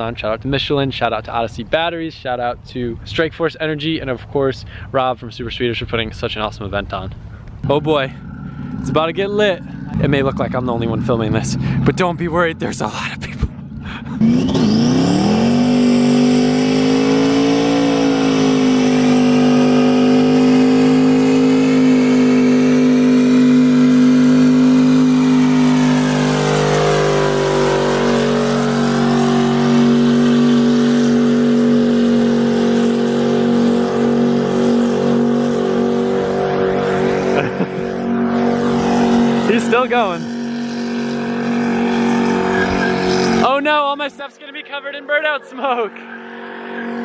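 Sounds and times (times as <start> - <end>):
car engine at high revs: 7.2 - 47.0.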